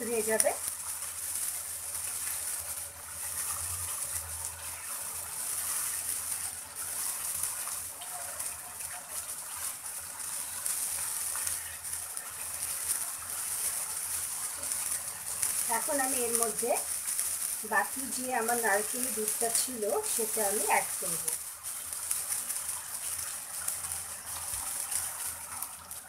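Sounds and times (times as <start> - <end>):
prawns sizzling in a frying pan: 0.0 - 26.0
spatula stirring: 0.0 - 26.0.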